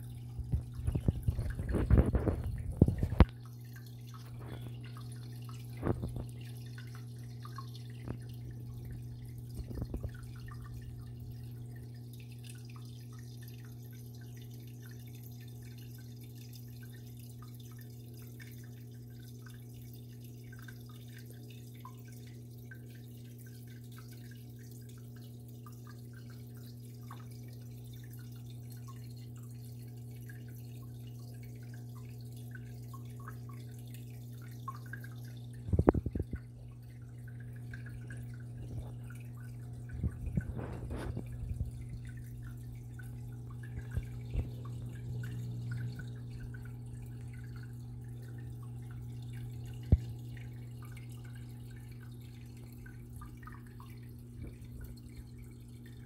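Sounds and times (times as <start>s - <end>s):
low pump hum: 0.0s - 56.0s
water dripping and trickling: 0.0s - 56.0s.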